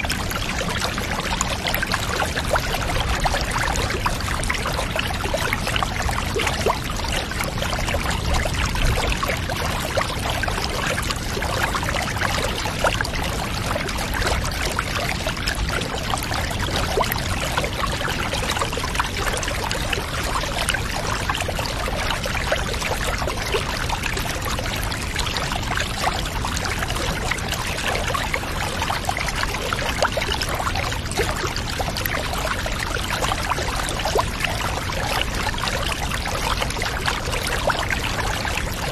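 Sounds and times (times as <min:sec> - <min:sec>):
water pouring and splashing: 0:00.0 - 0:38.9.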